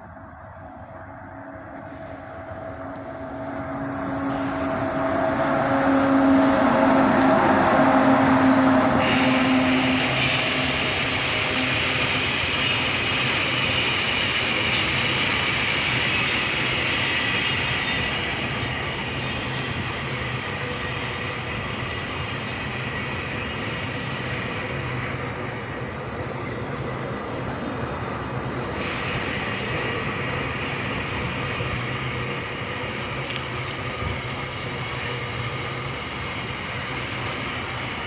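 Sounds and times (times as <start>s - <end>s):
freight train wheels rumbling on rails: 0.0s - 38.0s.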